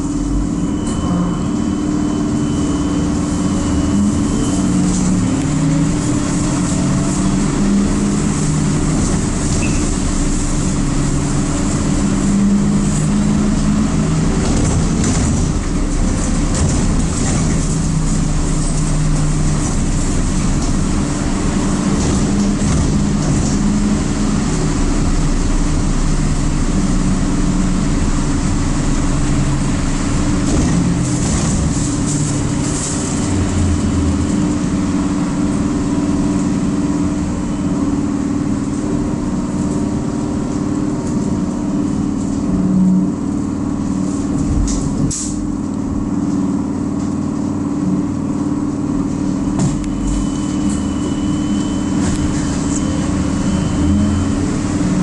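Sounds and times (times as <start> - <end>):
road noise on wet street: 0.0 - 55.0.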